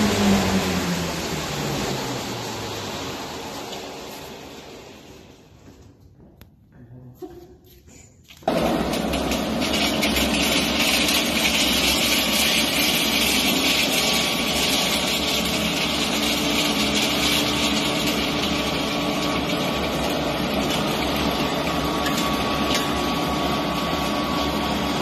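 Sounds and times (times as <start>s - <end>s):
pellet mill drone and grinding: 0.0s - 5.8s, 8.4s - 25.0s.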